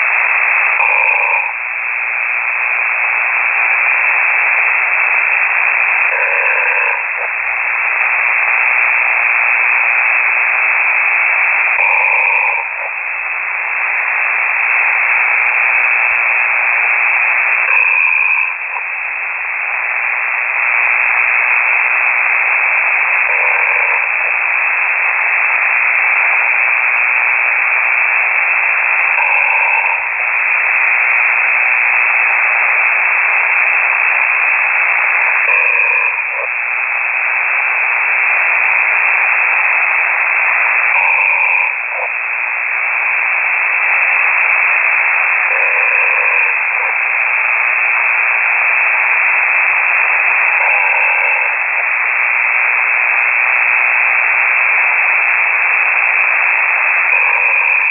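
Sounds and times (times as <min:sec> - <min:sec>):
person snoring over radio: 0:00.0 - 0:57.9
radio hiss: 0:00.0 - 0:57.9.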